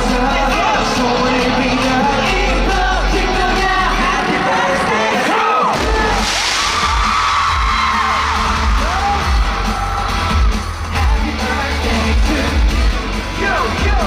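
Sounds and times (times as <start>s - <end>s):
fans screaming and cheering: 0.0s - 14.0s
loud pop music with heavy bass: 0.0s - 14.0s.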